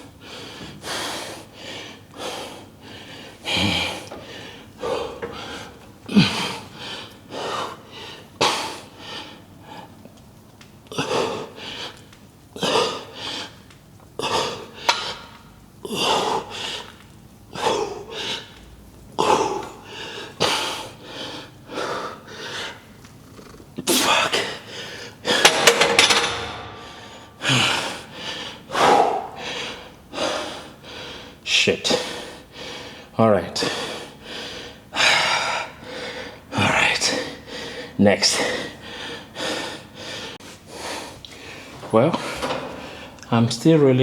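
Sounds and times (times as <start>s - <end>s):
man breathing hard: 0.0s - 10.0s, 10.9s - 18.6s, 19.2s - 22.9s, 24.1s - 43.2s.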